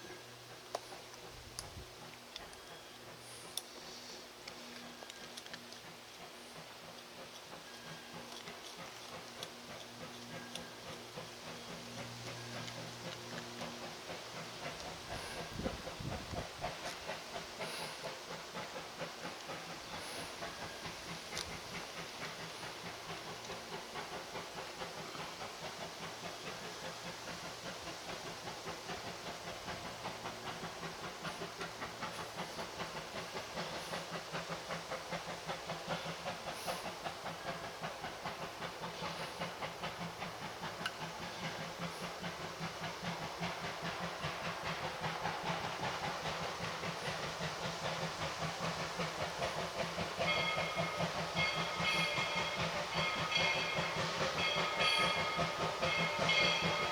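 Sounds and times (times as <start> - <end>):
steam hiss: 0.0 - 56.9
steam locomotive running: 0.0 - 56.9.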